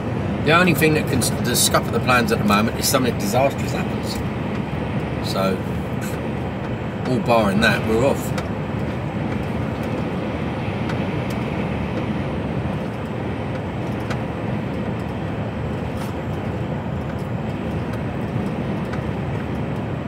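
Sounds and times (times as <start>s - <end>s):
lorry engine and tyre noise: 0.0s - 20.0s.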